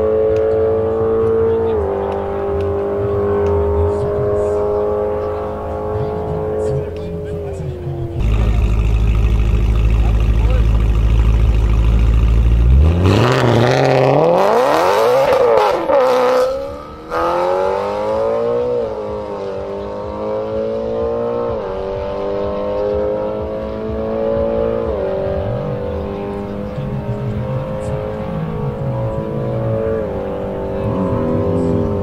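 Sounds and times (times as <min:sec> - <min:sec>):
car engine accelerating and upshifting: 0:00.0 - 0:32.0.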